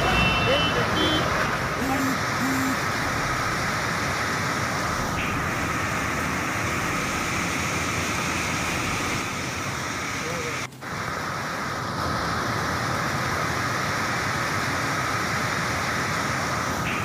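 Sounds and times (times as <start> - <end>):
flood torrent rushing: 0.0 - 17.0.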